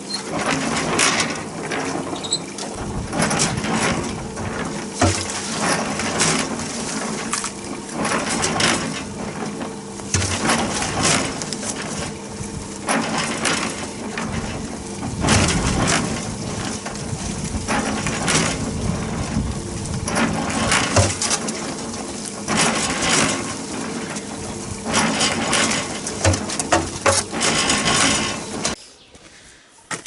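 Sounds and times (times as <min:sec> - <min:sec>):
concrete mixer churning gravel: 0:00.0 - 0:28.8.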